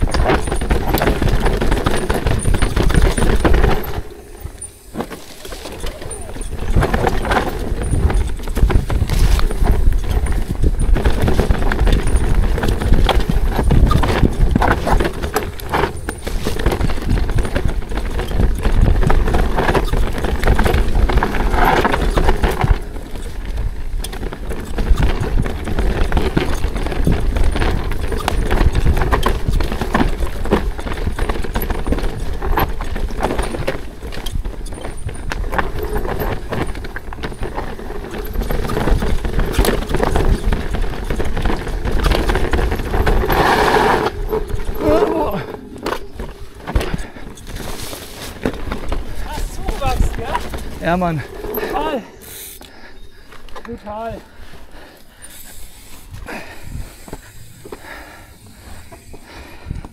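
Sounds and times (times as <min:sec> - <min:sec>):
bike chain and frame rattling: 0:00.0 - 0:59.9
bike tyres clattering over rocks: 0:00.0 - 0:59.9.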